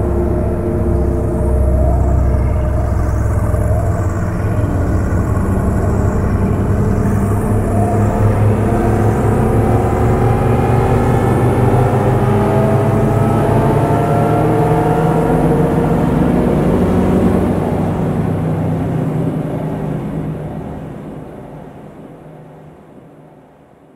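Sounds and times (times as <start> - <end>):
low droning synth hum: 0.0 - 23.1.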